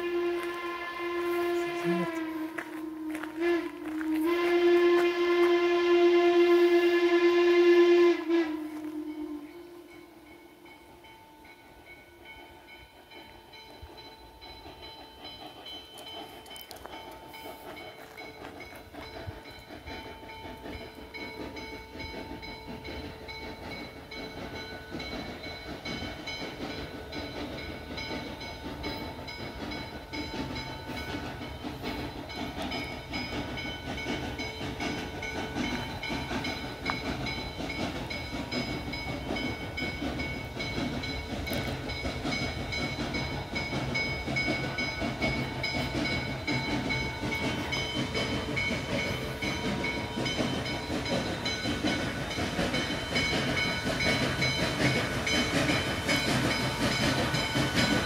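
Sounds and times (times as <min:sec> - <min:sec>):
steam locomotive rumbling: 0:00.0 - 0:58.0.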